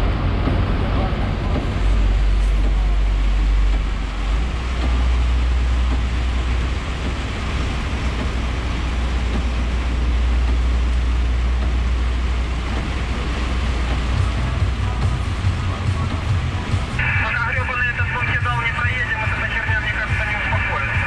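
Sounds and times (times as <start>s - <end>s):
rain on the road: 0.0s - 21.0s
truck diesel engine droning: 0.0s - 21.0s.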